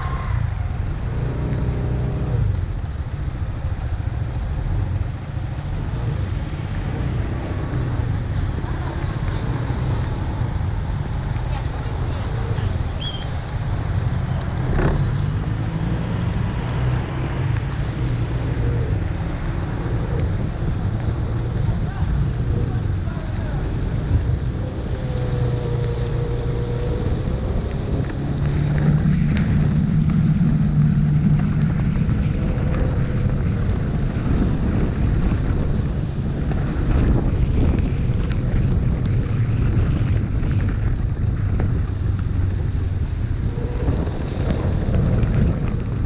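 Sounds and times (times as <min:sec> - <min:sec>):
steady rushing noise: 0:00.0 - 0:46.0
traffic on a wet street: 0:00.0 - 0:46.0
vehicle engine hum: 0:00.0 - 0:46.0
wind buffeting microphone: 0:00.0 - 0:46.0.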